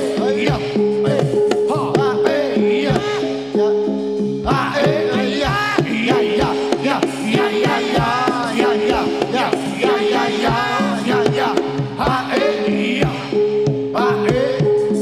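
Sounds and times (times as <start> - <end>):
drum strokes: 0.0 - 15.0
low held gamelan tones: 0.0 - 15.0
wavering high melody: 0.0 - 15.0.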